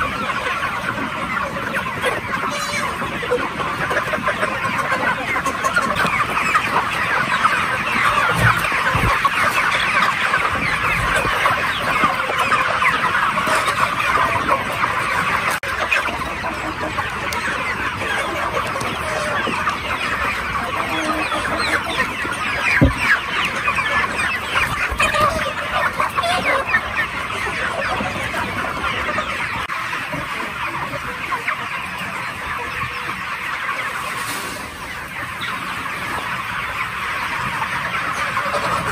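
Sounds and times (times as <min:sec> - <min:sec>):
chickens clucking and cheeping: 0:00.0 - 0:38.9.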